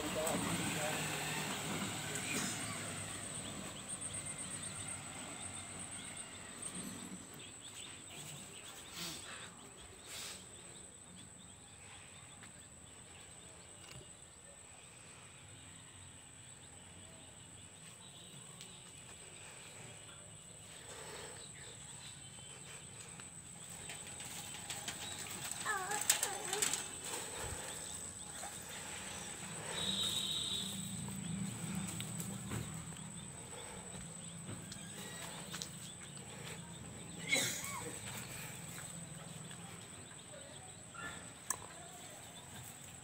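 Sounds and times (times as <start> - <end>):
faint bird sounds: 0.0 - 43.0.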